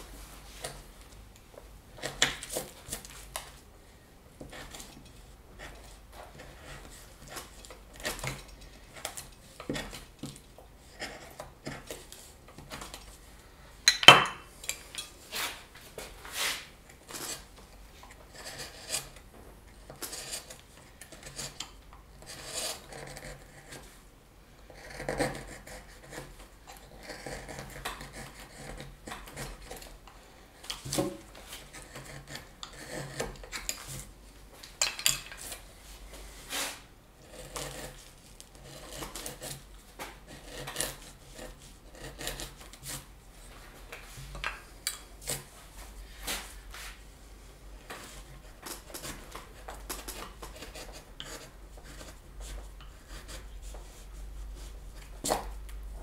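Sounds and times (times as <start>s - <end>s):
carving tools slicing and scraping wood: 1.9s - 3.6s, 4.4s - 13.2s, 14.1s - 24.0s, 24.6s - 47.0s, 47.9s - 56.0s.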